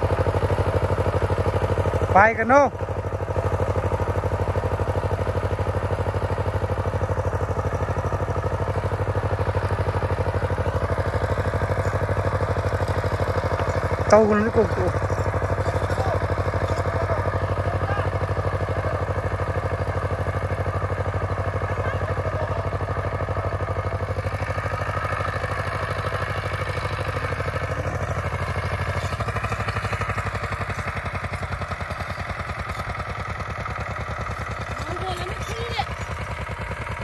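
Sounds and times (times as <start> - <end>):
tiller engine running: 0.0 - 37.0.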